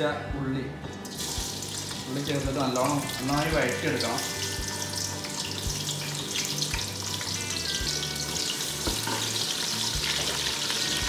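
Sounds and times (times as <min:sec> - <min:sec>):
onions sizzling in oil: 0:01.1 - 0:11.0.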